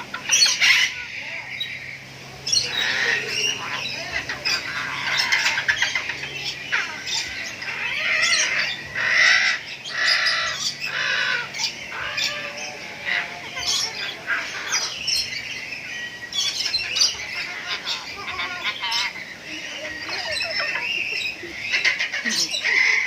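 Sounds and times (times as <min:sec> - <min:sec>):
birds squawking and chirping: 0:00.0 - 0:23.0.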